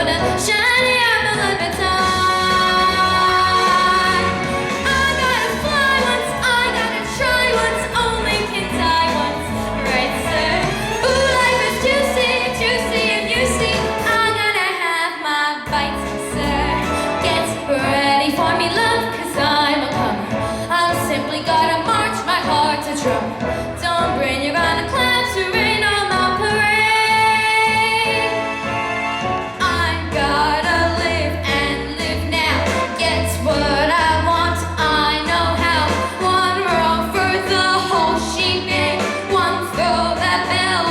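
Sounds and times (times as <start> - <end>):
musical accompaniment with bass: 0.0 - 14.6, 15.7 - 40.9
woman singing a show tune: 0.0 - 28.3, 29.6 - 40.9.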